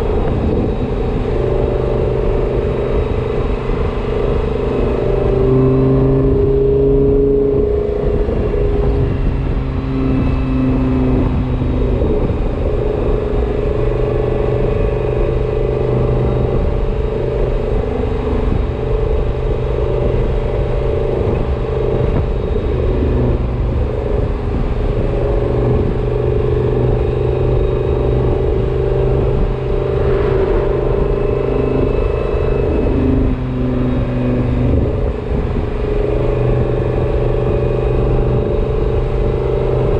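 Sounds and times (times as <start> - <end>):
car engine running with whine: 0.0 - 39.9.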